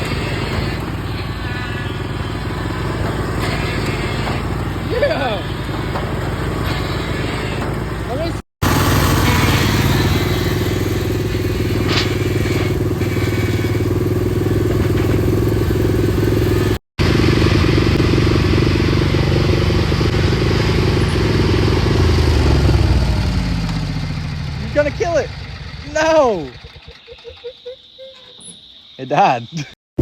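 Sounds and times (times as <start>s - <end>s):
lawnmower engine running: 0.0s - 27.4s.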